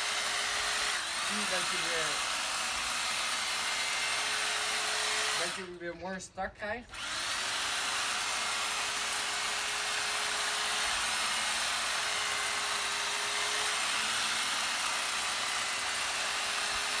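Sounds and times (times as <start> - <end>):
electric hedge trimmer buzzing: 0.0 - 5.8, 6.9 - 17.0.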